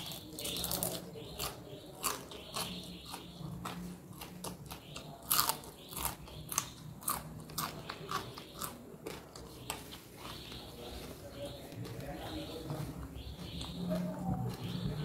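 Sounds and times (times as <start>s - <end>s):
crunchy food chewing: 0.0s - 15.0s.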